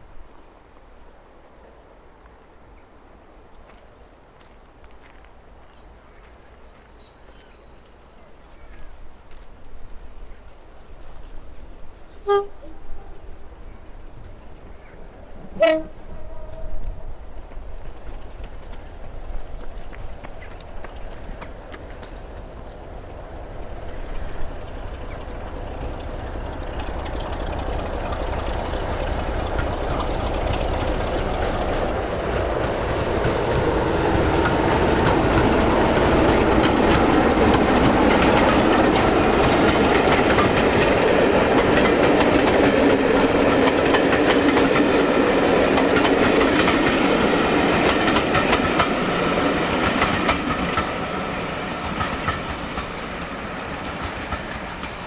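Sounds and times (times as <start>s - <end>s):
train running past: 0.0s - 55.0s.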